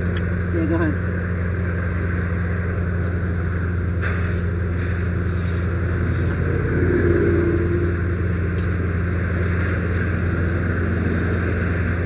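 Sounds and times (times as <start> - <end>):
low engine rumble: 0.0 - 12.0
water spraying from hose: 1.6 - 12.0.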